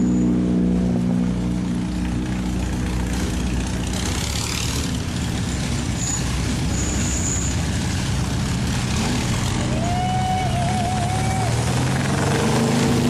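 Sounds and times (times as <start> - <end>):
race car engines rumbling: 0.0 - 13.0.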